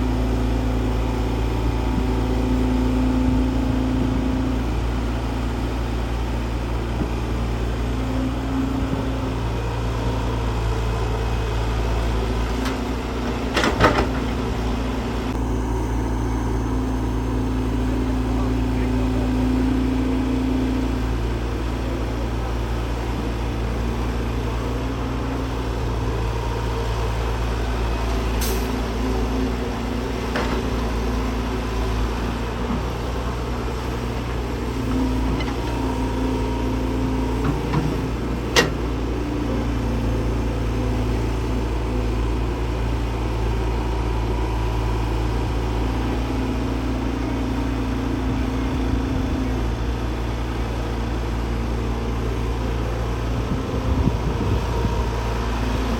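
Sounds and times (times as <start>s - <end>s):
diesel engine rumbling: 0.0s - 55.9s.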